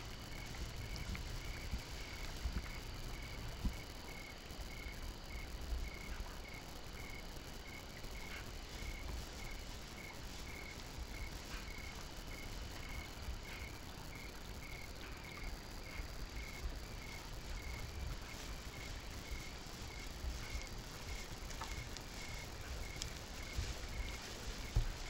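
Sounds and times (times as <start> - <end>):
faint low rumble: 0.0 - 25.0
insect chirping: 0.0 - 25.0.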